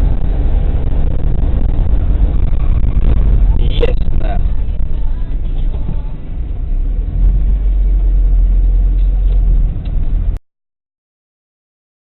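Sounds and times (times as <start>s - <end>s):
road noise: 0.0s - 10.4s
vehicle engine rumble: 0.0s - 10.4s.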